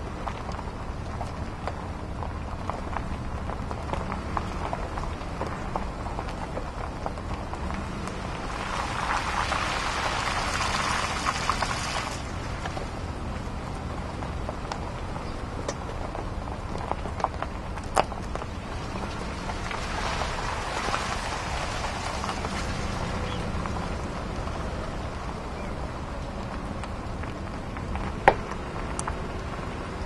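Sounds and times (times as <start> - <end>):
vehicle rolling over wet dirt: 0.0 - 30.0.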